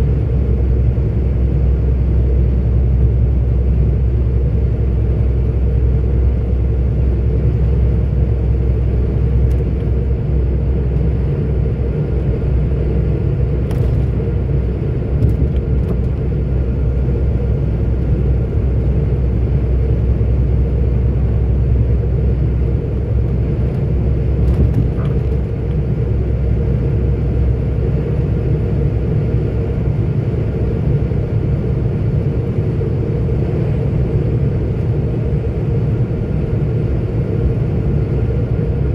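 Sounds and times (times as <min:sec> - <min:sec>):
truck diesel engine drone: 0:00.0 - 0:38.9.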